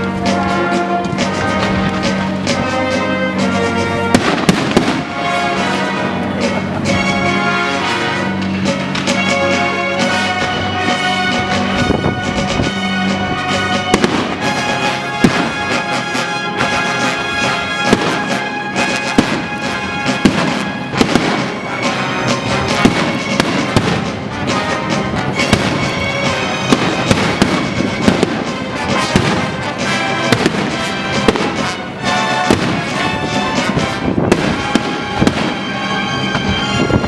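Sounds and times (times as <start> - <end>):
fireworks bangs and crackling: 0.0 - 37.0
loud music: 0.0 - 37.0.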